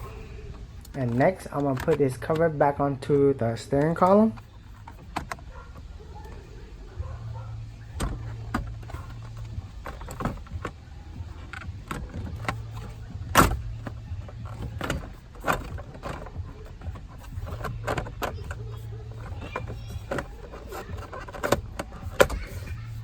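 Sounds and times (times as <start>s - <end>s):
hard plastic clicks and knocks: 0.0s - 23.0s
low steady hum: 0.0s - 23.0s.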